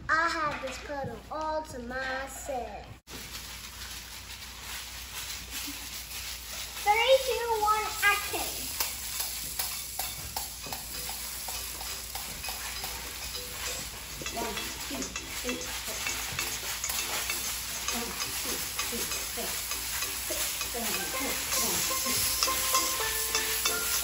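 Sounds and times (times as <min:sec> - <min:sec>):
crackling rustling noise: 0:03.1 - 0:24.0.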